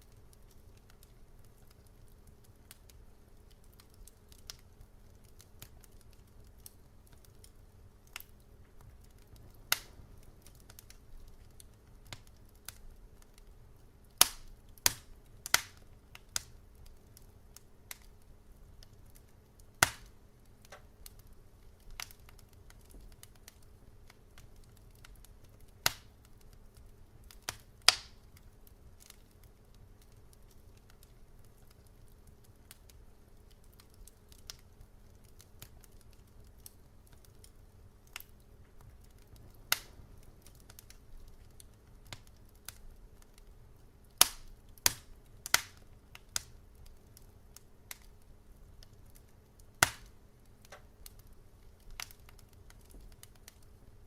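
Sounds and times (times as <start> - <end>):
faint low hiss: 0.0 - 54.0
wood fire crackling: 0.0 - 54.0.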